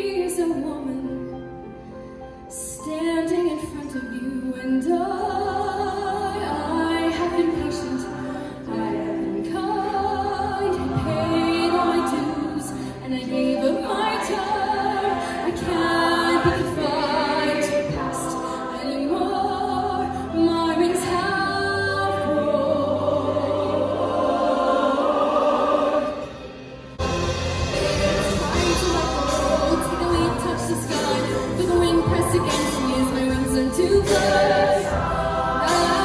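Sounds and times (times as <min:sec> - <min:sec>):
choir singing held chords: 0:05.0 - 0:36.0.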